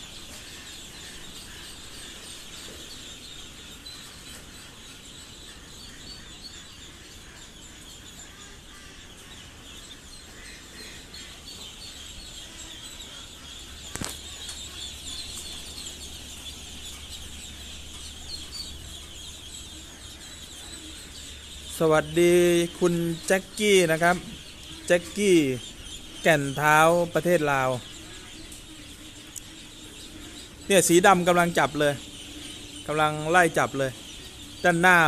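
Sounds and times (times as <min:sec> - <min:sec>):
ducklings peeping: 0:00.0 - 0:35.0.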